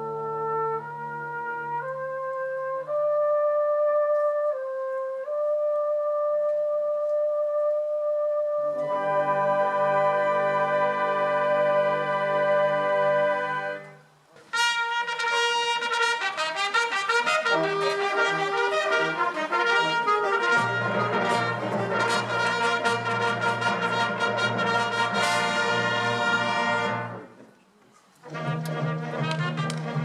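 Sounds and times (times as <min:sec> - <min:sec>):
brass band music: 0:00.0 - 0:27.3, 0:28.2 - 0:30.0.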